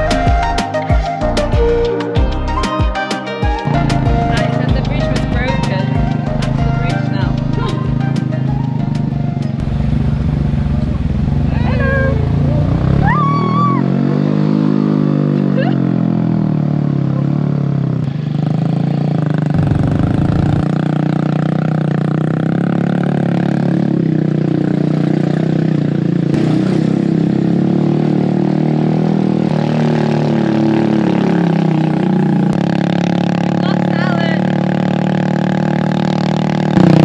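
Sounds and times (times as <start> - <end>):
motorbike engine running: 3.5 - 37.0.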